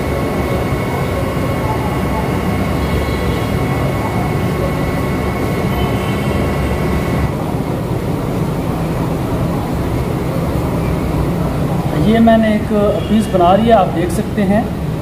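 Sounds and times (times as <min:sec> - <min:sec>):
faint high whining tones: 0:00.0 - 0:15.0.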